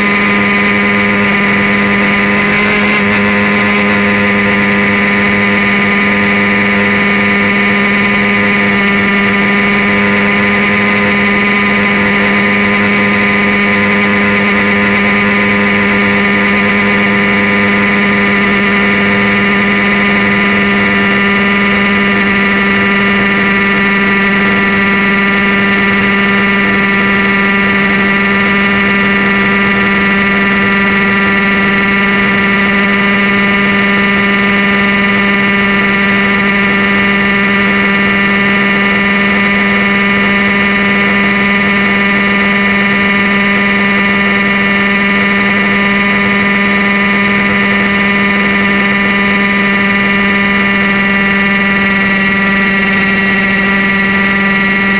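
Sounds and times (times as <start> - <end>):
model helicopter engine drone: 0.0 - 54.9.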